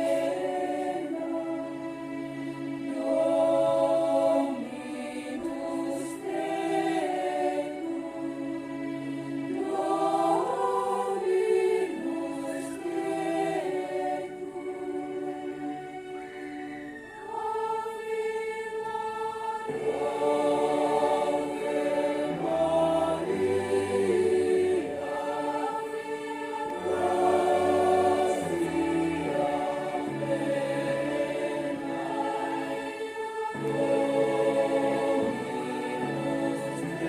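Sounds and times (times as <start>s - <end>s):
choir singing a hymn: 0.0s - 37.0s.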